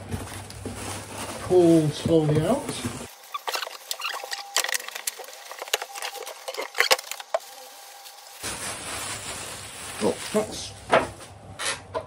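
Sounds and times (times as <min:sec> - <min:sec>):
packing scraping and crackling: 0:00.0 - 0:10.6.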